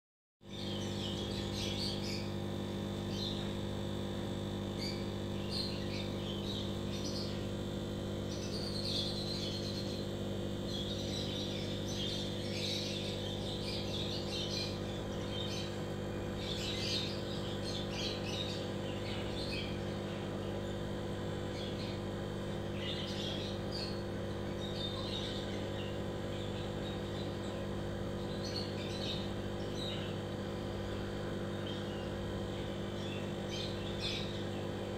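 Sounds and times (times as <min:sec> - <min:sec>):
aquarium air pump humming: 0:00.4 - 0:34.9
small birds chirping: 0:00.4 - 0:34.9.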